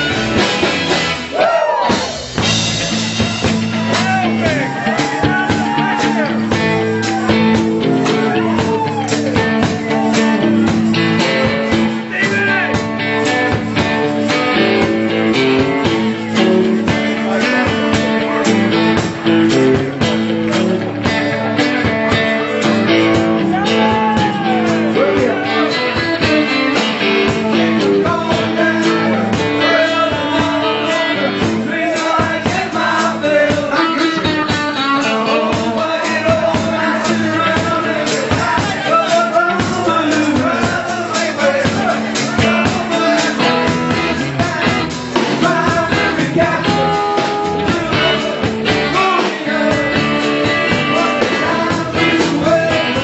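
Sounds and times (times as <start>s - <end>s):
drums: 0.0s - 53.0s
electric guitars: 0.0s - 53.0s
voices singing: 1.2s - 53.0s.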